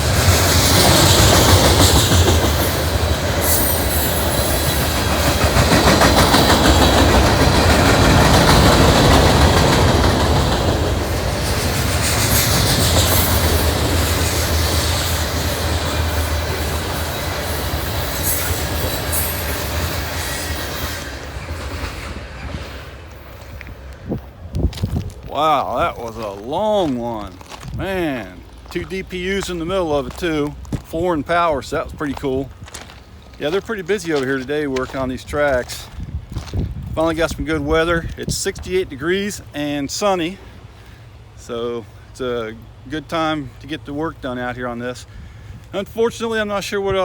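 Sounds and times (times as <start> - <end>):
freight train wheels clattering: 0.0 - 39.5.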